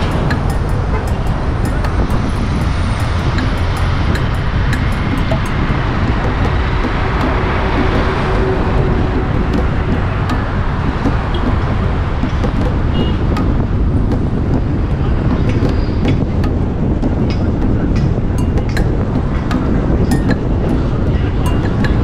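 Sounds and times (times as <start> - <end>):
car engine and tyre rumble: 0.0 - 22.0
surrounding traffic: 0.0 - 22.0.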